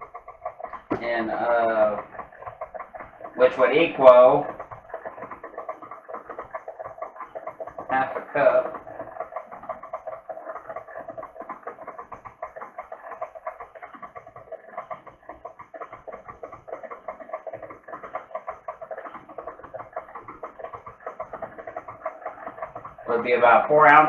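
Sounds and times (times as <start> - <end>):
stand mixer rattling: 0.0 - 24.0.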